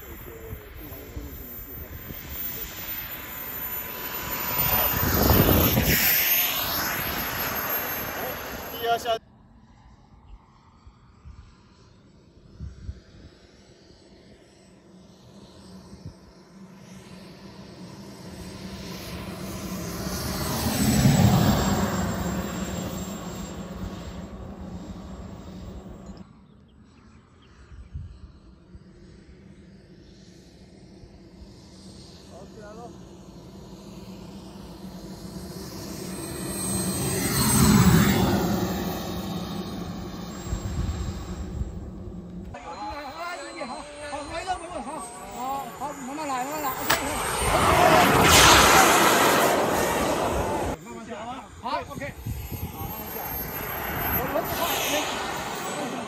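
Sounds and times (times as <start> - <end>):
jet turbine whining: 0.0 - 26.4, 28.3 - 56.0
model airplane motor flying past: 0.0 - 56.0.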